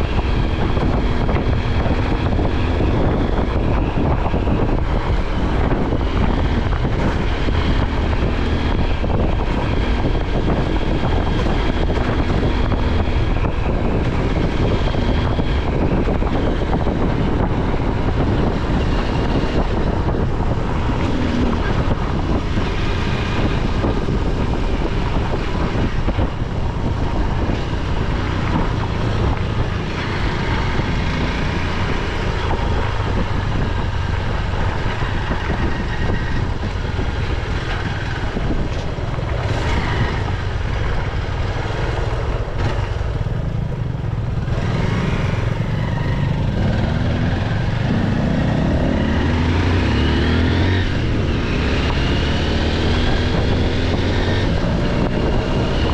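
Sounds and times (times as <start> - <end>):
motorcycle engine running: 0.0 - 55.9
wind rush on microphone: 0.0 - 55.9.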